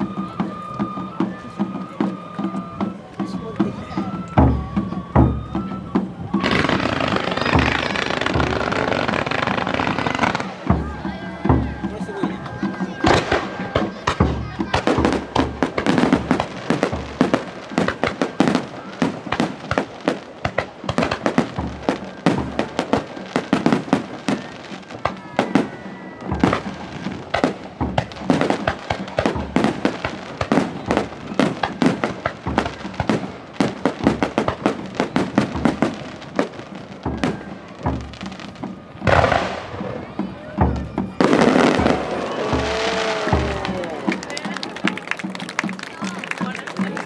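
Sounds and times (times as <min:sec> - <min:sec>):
fireworks bursting and crackling: 0:00.0 - 0:47.0.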